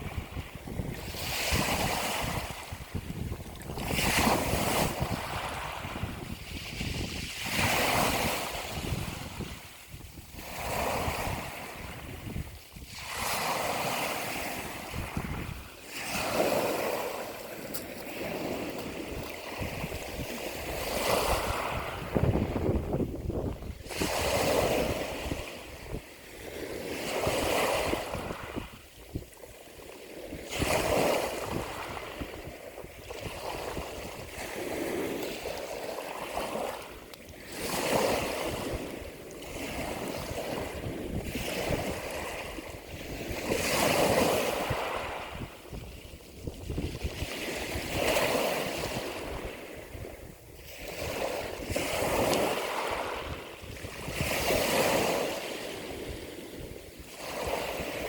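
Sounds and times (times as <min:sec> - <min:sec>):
sea waves washing in: 0:00.0 - 0:58.0.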